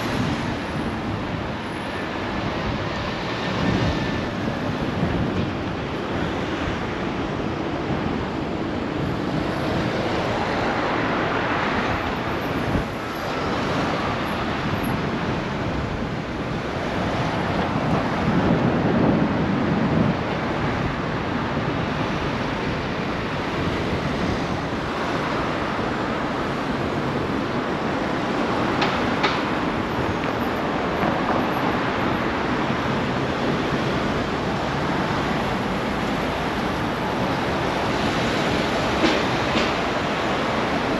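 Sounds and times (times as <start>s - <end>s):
road traffic: 0.0s - 40.9s
wind rushing over microphone: 0.0s - 40.9s.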